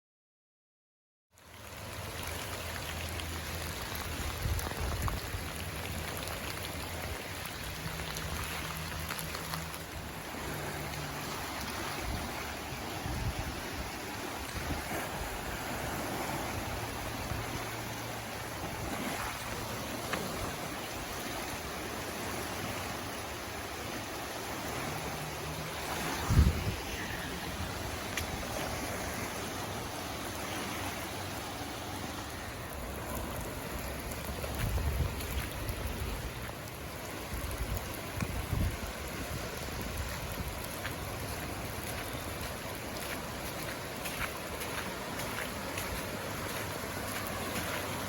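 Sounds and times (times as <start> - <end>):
floodwater rushing: 1.4 - 48.0.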